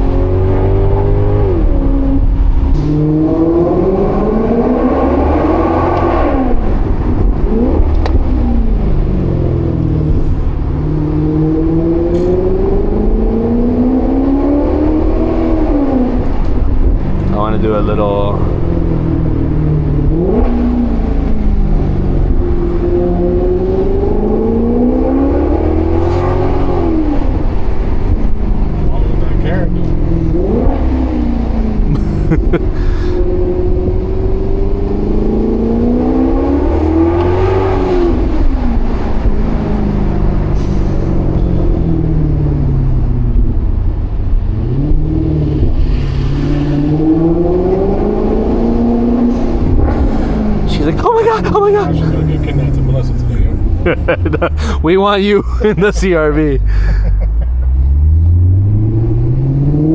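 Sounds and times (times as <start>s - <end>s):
car engine accelerating: 0.0s - 59.9s
low road rumble: 0.0s - 59.9s.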